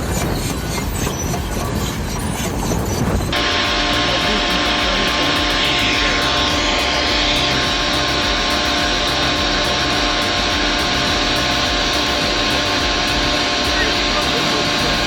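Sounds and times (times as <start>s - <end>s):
heavy machine engine droning: 0.0s - 15.0s.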